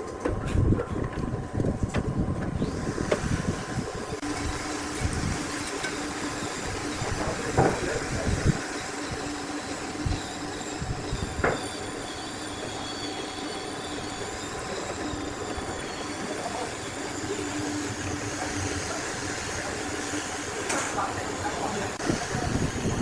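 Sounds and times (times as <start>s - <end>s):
mechanical running noise: 0.0s - 23.0s.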